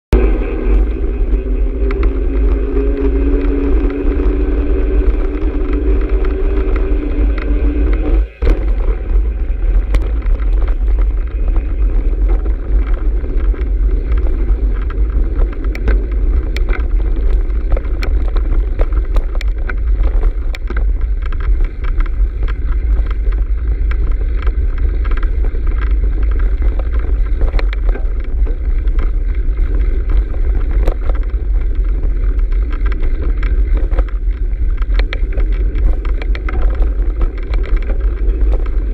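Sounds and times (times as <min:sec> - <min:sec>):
wind rumble on microphone: 0:00.0 - 0:38.9
steady hum: 0:00.1 - 0:38.9
bike rattling over bumps: 0:00.2 - 0:38.9.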